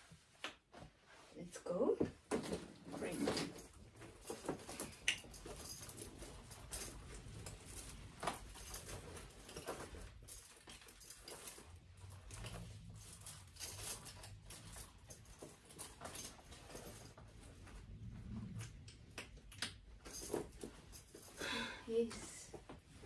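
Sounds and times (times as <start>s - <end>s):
clothing rustling: 0.0s - 19.1s, 19.8s - 23.0s
small clicks and clinks: 2.3s - 22.8s.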